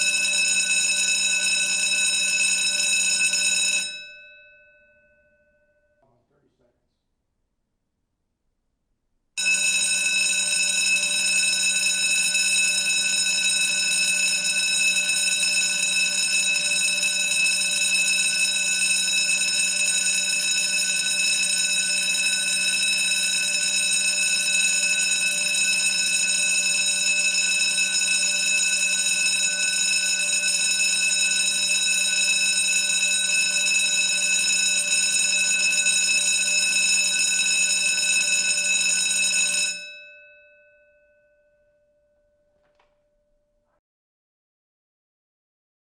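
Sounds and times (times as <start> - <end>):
school bell ringing: 0.0 - 6.0, 9.4 - 42.0.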